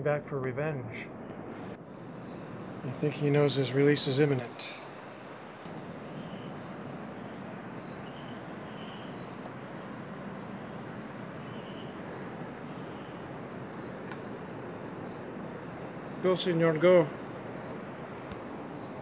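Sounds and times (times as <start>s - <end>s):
background hiss: 0.0s - 19.0s
night insects chirping: 0.1s - 19.0s.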